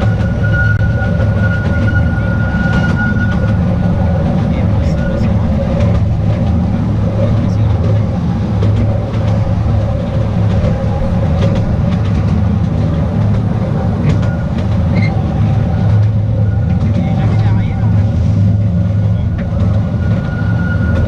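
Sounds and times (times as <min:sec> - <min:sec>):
light clicks of wheels on rails: 0:00.0 - 0:21.0
train running hum: 0:00.0 - 0:21.0.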